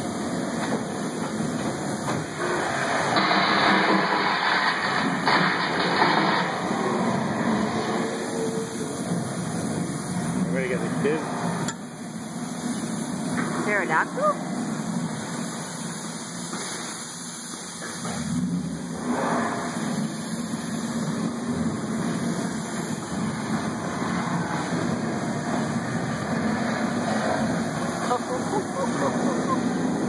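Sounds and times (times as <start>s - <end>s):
low mechanical rumble and hiss: 0.0s - 30.0s.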